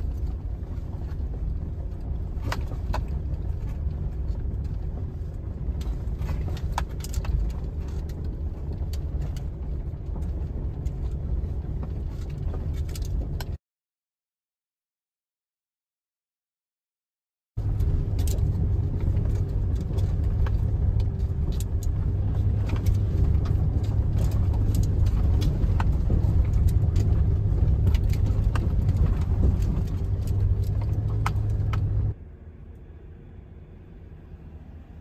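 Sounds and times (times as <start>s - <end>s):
gravel ticking against truck: 0.0s - 13.6s, 17.6s - 32.2s
truck engine and tyre rumble: 0.0s - 13.6s, 17.6s - 35.0s.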